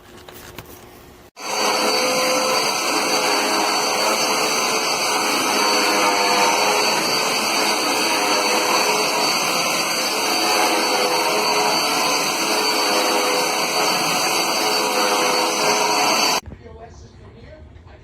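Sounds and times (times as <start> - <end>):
vacuum cleaner running: 1.4 - 16.4.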